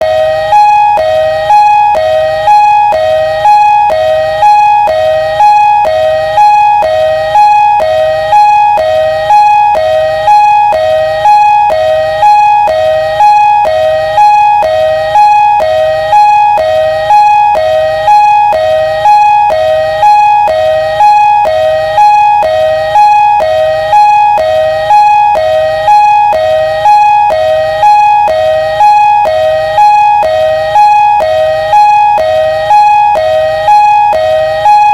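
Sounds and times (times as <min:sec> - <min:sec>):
two-tone ambulance siren: 0:00.0 - 0:34.9.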